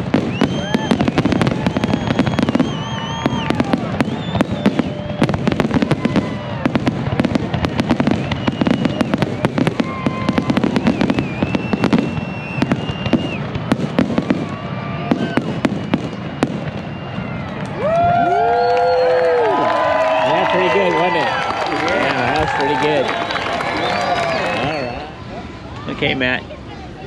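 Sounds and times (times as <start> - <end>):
fireworks cracks and bangs: 0.0 - 25.0
whistling fireworks: 0.0 - 25.9.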